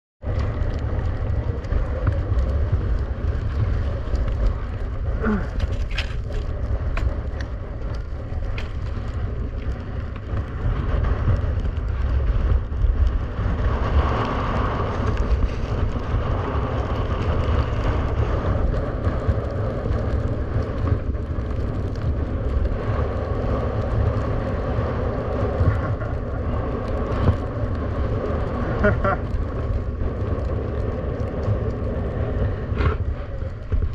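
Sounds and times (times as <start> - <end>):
wind buffeting microphone: 0.2 - 33.9
skis scraping over ice: 0.3 - 33.9.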